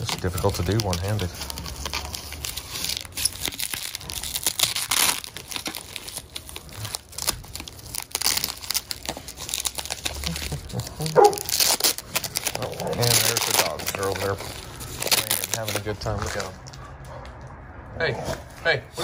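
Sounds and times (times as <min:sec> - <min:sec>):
bubble wrap crinkling: 0:00.0 - 0:16.8.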